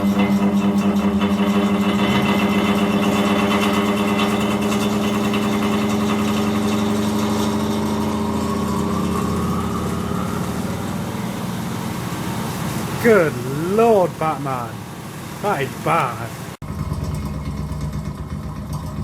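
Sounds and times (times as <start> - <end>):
fan droning with rapid flutter: 0.0 - 19.0.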